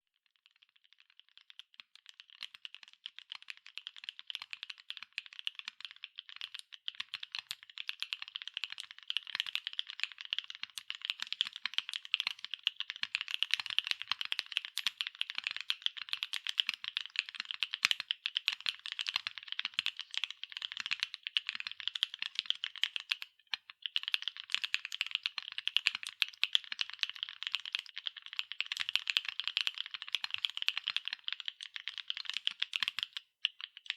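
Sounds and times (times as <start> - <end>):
fast typing on mechanical keyboard: 0.9 - 33.9.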